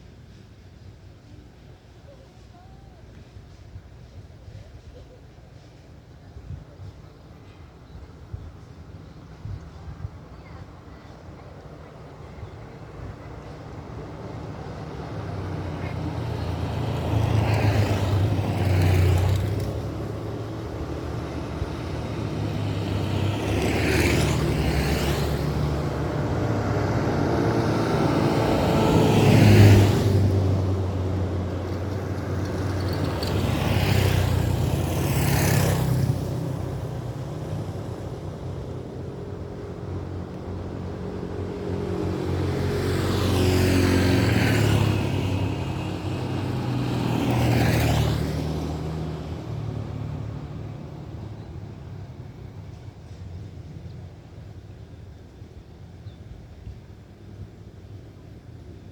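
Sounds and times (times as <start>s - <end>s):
vehicles passing: 0.0s - 58.9s
low engine hum: 6.2s - 58.8s.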